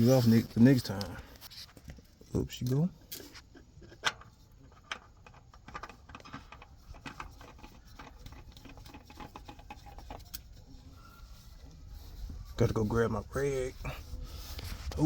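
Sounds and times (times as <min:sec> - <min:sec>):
oil filter clicking and scraping: 0:00.0 - 0:15.0.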